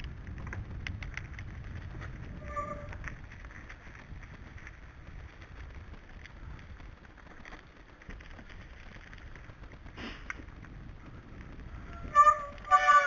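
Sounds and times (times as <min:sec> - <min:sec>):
bike rattle: 0:00.0 - 0:13.0
tyres rolling on gravel: 0:00.0 - 0:13.0
wind on microphone: 0:00.0 - 0:13.0.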